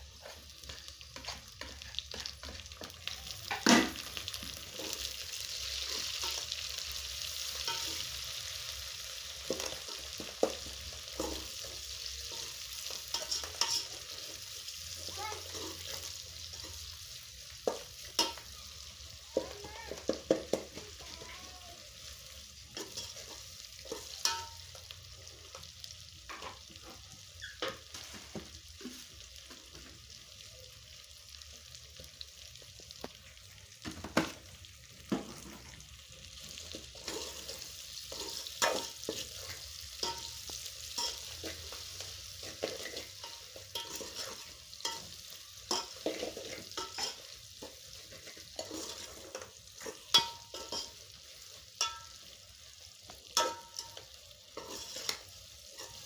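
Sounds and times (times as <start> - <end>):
food sizzling in pan: 0.0 - 56.0
spoon scraping and knocking pan: 0.2 - 21.3, 22.0 - 30.0, 35.0 - 35.8, 36.5 - 52.4, 53.1 - 56.0.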